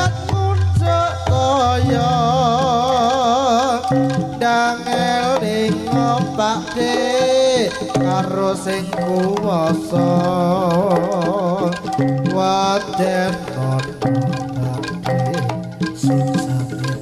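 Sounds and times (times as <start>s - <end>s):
wavering melody through sound system: 0.0s - 17.0s.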